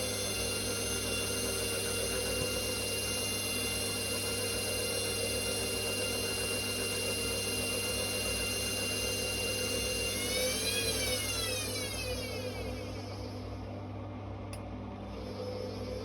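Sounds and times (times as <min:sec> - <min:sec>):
washing machine motor whining: 0:00.0 - 0:16.0.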